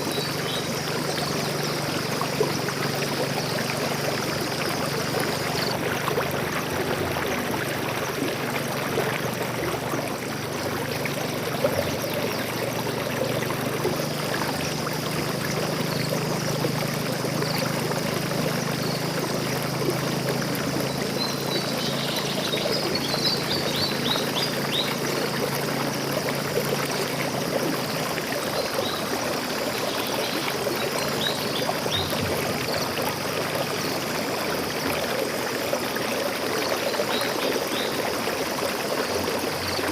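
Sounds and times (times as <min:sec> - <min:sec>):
stream water splashing: 0:00.0 - 0:39.9.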